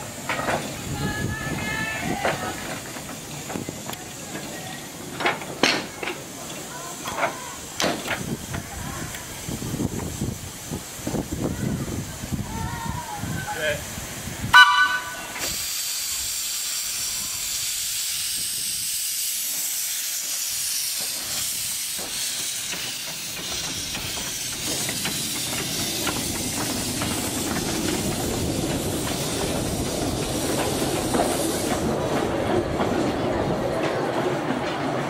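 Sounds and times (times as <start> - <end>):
locomotive running noise: 0.0 - 35.0
steam locomotive hissing: 0.0 - 35.0.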